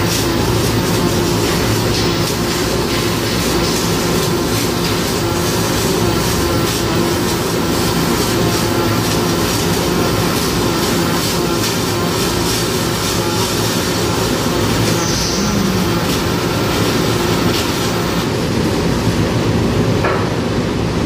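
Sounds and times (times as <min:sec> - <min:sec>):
welding arc crackling: 0:00.0 - 0:20.0.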